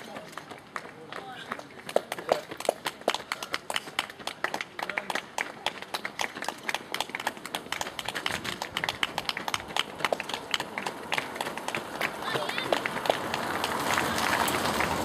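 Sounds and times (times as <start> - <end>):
spectators clapping: 0.0 - 15.0.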